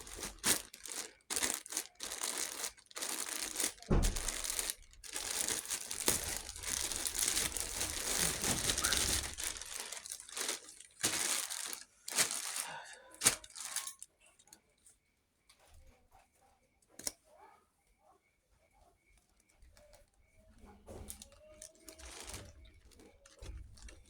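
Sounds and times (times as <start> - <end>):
crinkling and crumpling: 0.0 - 14.8, 19.0 - 24.0.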